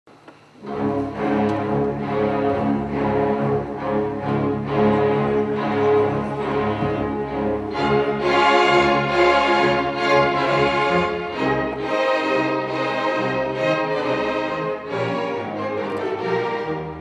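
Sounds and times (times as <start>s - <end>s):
string orchestra playing: 0.6s - 17.0s.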